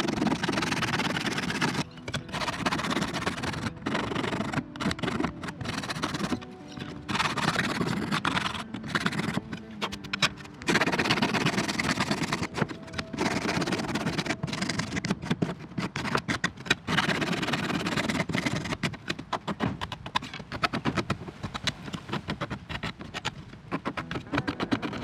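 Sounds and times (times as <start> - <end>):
hand file rasping on plastic: 0.0 - 25.0.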